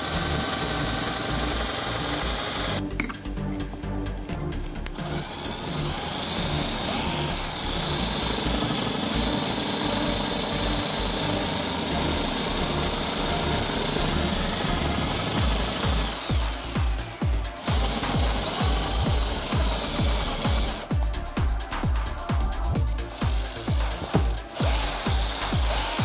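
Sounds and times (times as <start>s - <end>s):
electric drill boring through wood: 0.0s - 2.8s, 5.0s - 20.9s, 23.2s - 26.0s.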